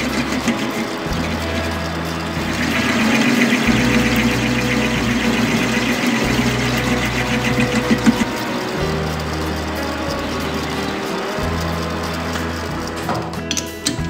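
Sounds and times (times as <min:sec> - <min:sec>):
lathe machine hum: 0:00.0 - 0:13.6
lathe tool cutting metal: 0:00.0 - 0:13.6.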